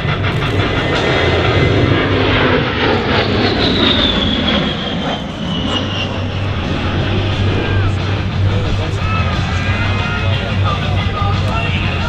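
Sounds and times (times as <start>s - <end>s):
jet engines passing with whine: 0.0s - 12.0s.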